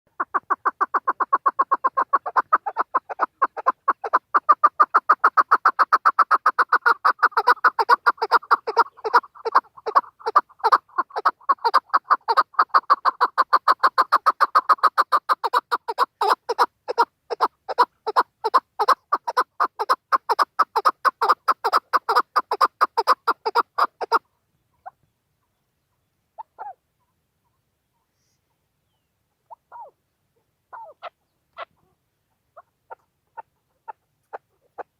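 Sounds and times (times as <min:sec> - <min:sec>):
partridge calling: 0:00.1 - 0:34.9.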